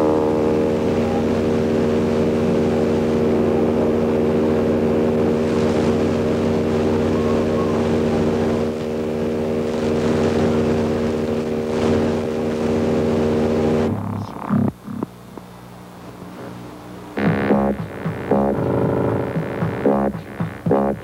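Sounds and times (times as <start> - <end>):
synthesizer drone: 0.0 - 15.4, 17.1 - 21.0.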